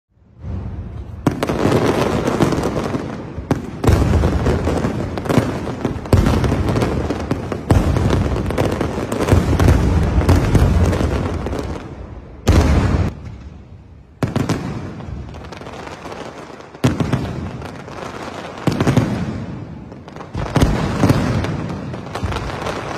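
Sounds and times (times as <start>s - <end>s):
deep fireworks booms: 0.2s - 22.9s
fireworks bursting and crackling: 0.2s - 22.9s.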